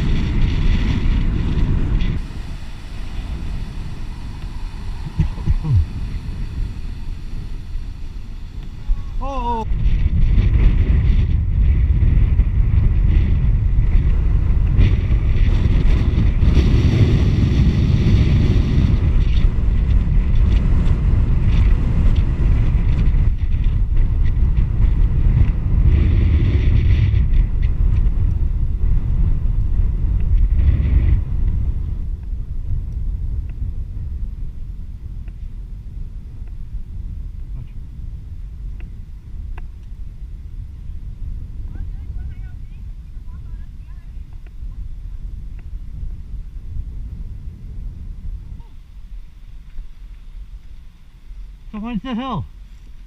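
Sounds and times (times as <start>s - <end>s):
wind buffeting microphone: 0.0s - 51.8s.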